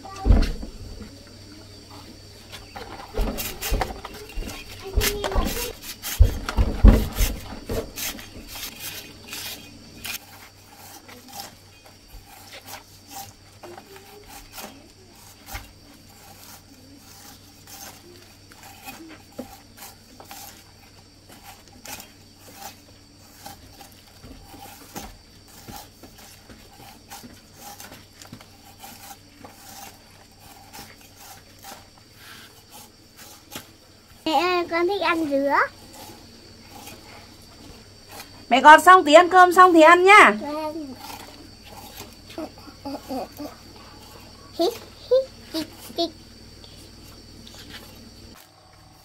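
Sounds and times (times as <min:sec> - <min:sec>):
knife scraping pineapple rind: 0:02.6 - 0:38.5, 0:40.4 - 0:48.5.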